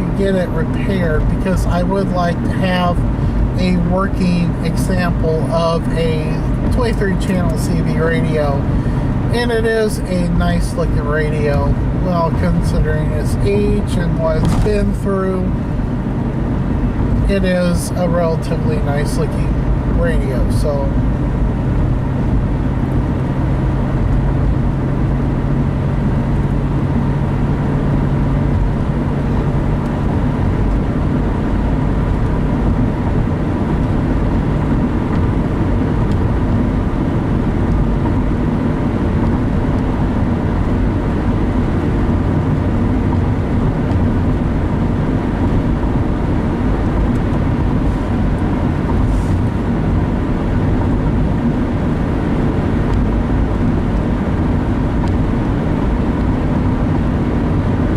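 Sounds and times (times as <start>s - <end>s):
car road and engine rumble: 0.0s - 57.9s
low steady hum: 0.0s - 57.9s.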